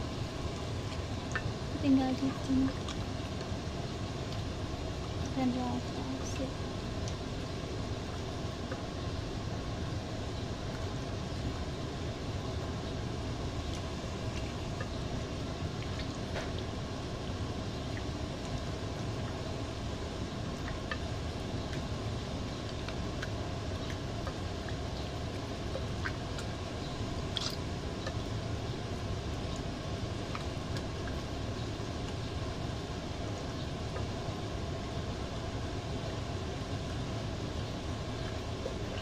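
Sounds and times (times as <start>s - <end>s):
low rumbling background noise: 0.0s - 39.0s.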